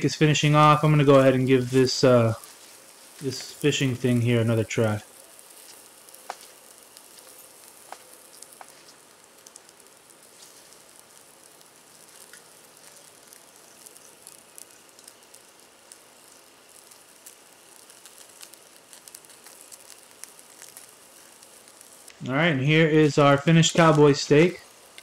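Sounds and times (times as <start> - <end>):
steak sizzling over charcoal: 0.0 - 25.0
charcoal pops and crackles: 0.6 - 22.3, 23.0 - 25.0.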